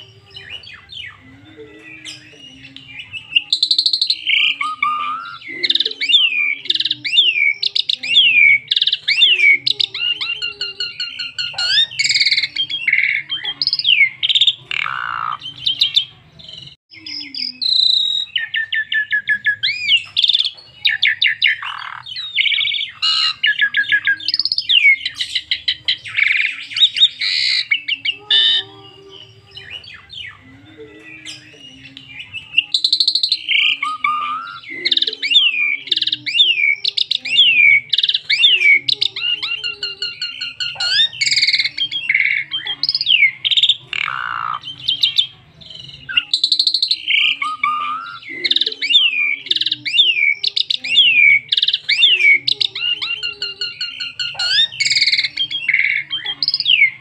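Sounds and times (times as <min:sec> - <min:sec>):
starling singing: 0:00.0 - 0:57.0.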